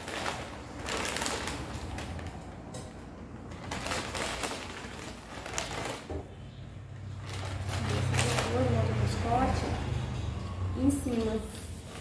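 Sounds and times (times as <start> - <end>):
plastic bag rustling: 0.0 - 9.2, 11.1 - 12.0.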